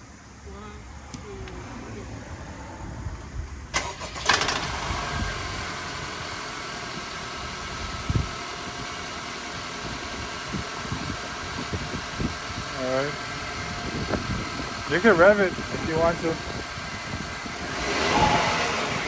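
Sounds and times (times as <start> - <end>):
car engine starting and idling: 1.5 - 19.0.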